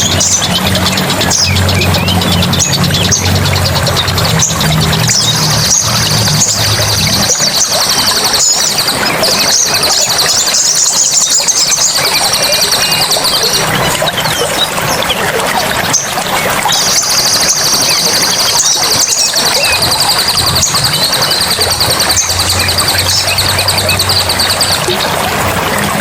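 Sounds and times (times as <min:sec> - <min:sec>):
birds trilling: 0:00.0 - 0:26.0
running water: 0:00.0 - 0:26.0.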